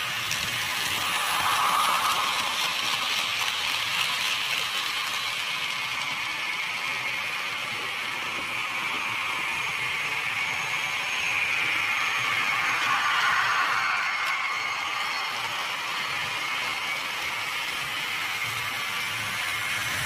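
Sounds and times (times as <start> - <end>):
model trains running on track: 0.0 - 20.0.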